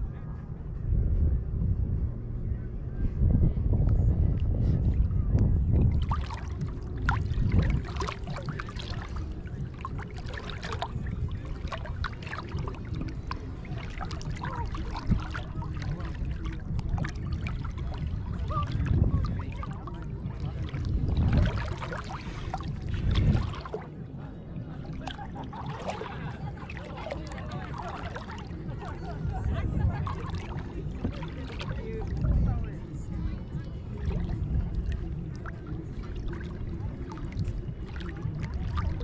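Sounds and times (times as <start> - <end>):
low rumble: 0.0 - 39.0
seawater lapping and splashing: 4.3 - 39.0
water trickling and dripping: 5.7 - 23.9, 24.8 - 32.6, 33.7 - 39.0.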